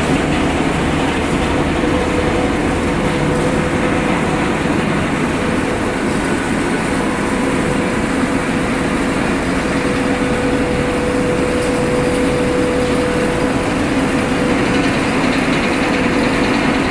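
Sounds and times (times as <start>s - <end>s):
machinery running: 0.0s - 16.9s
motor hum: 0.0s - 16.9s.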